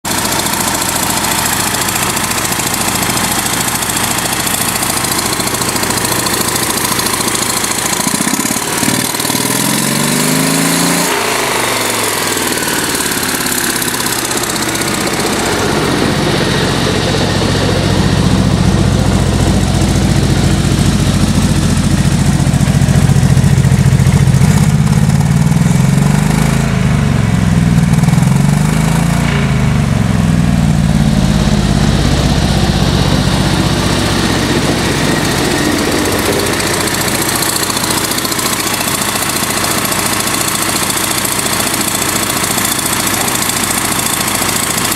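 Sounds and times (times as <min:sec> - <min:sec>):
car engine with exhaust leak: 0:00.0 - 0:44.9
deep steady engine note: 0:00.1 - 0:44.9.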